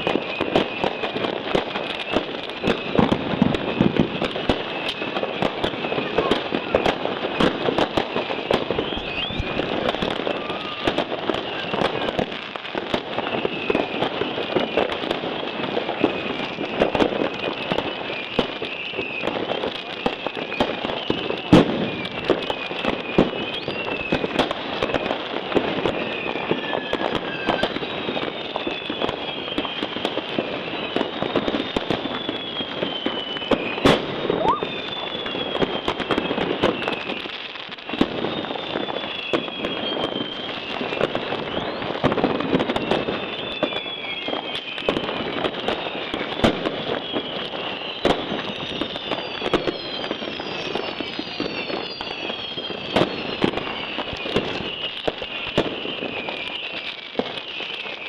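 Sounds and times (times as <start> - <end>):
firecrackers crackling: 0.0 - 58.0
firework whistles falling in pitch: 0.0 - 58.0
fireworks sharp bangs: 0.0 - 58.0.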